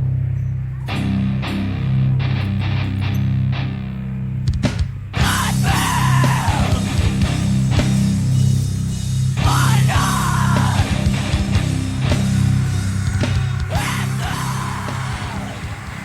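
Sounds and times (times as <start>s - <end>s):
distorted electric guitar: 0.0s - 16.0s
drums: 0.0s - 16.0s.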